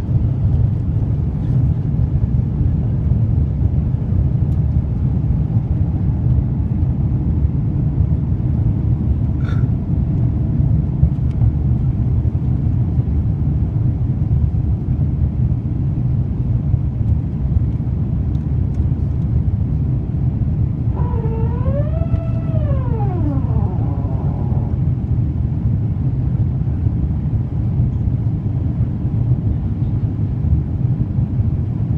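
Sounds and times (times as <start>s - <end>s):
jet engine rumble in cabin: 0.0s - 31.9s.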